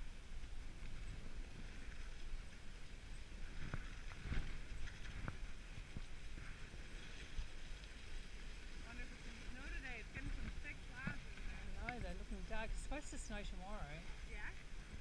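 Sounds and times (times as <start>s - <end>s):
sled runners rumbling on snow: 0.0s - 15.0s.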